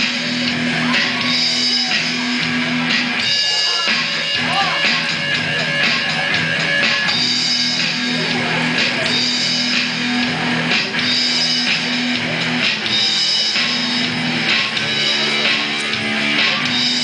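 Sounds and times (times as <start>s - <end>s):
electric guitar chords: 0.0s - 17.0s
electronic drum kit with cymbals: 0.0s - 17.0s.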